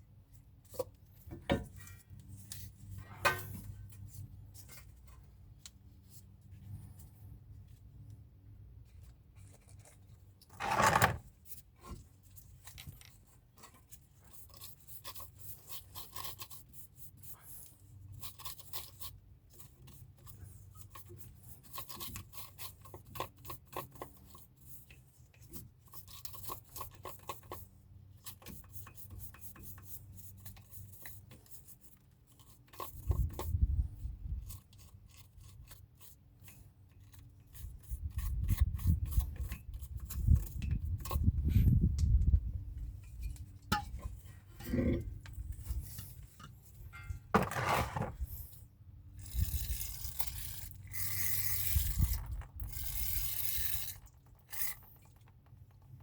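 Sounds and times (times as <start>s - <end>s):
rubbing and scraping brake parts: 0.3s - 8.0s, 8.8s - 56.0s.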